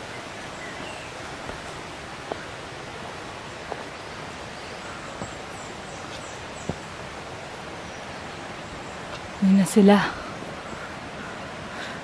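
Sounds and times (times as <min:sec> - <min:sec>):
outdoor hiss and rustle: 0:00.0 - 0:12.0.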